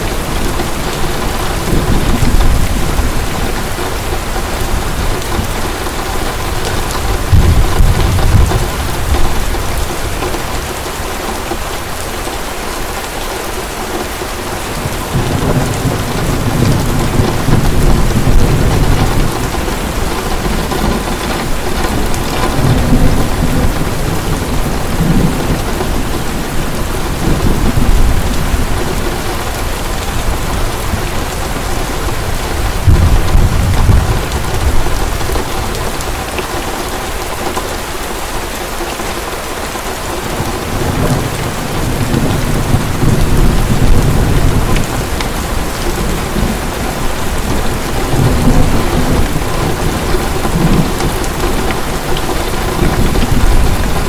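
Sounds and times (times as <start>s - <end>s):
thunder rumbling: 0.0s - 12.0s, 14.2s - 37.4s, 40.2s - 54.0s
heavy rain pouring: 0.0s - 54.0s.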